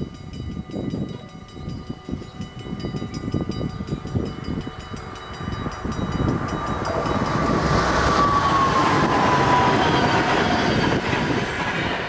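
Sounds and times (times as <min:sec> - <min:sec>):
level crossing warning bells: 0:00.0 - 0:11.8
train wheels rushing on rails: 0:00.0 - 0:12.0
train whine dropping in pitch: 0:00.0 - 0:12.0.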